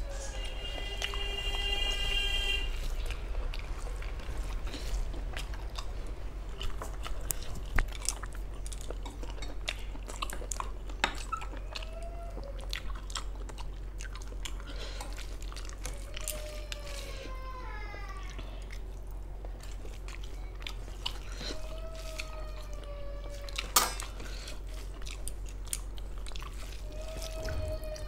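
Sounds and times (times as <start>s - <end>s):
wet chewing and mouth clicks: 0.3s - 2.0s, 2.7s - 17.2s, 18.2s - 28.0s.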